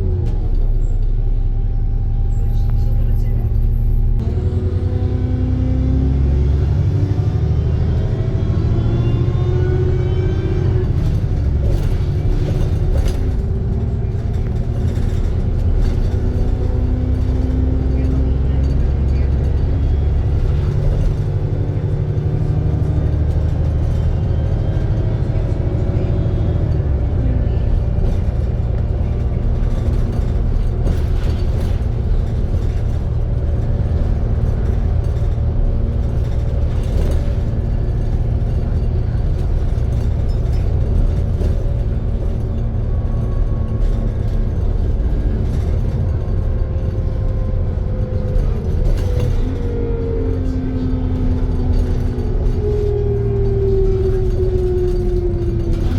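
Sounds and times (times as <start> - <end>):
bus engine running: 0.0 - 55.9.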